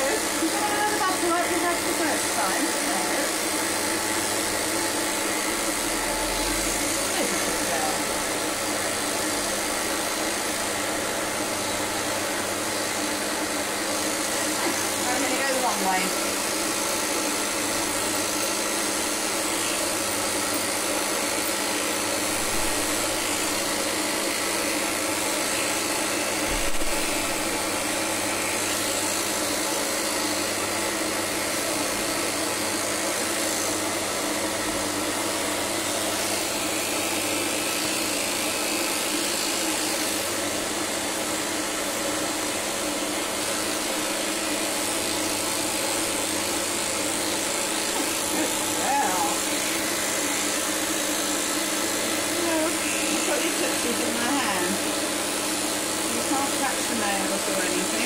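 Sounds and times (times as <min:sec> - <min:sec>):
electric clippers buzzing: 0:00.0 - 0:58.0.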